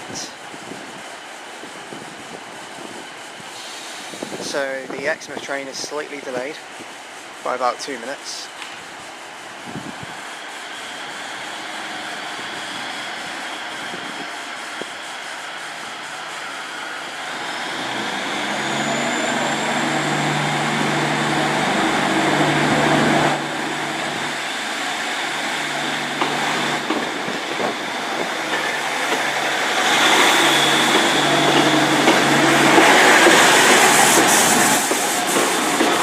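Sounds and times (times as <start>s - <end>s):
train engine humming: 0.0s - 36.0s
wheel and rail noise: 0.2s - 36.0s.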